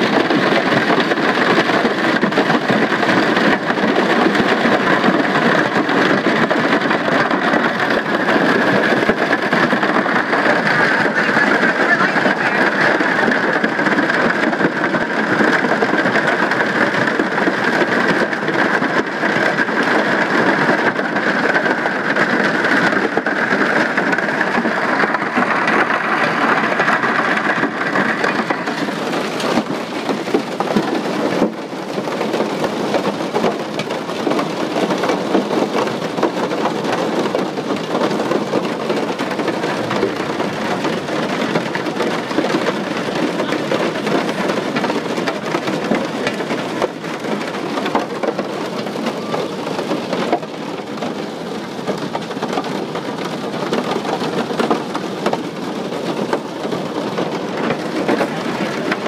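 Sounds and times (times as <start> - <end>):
hail clattering on aircraft: 0.0 - 59.0.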